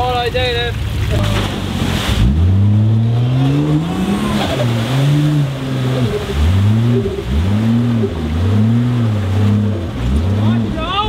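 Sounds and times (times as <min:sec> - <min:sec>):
truck engine revving hard: 0:01.2 - 0:11.0.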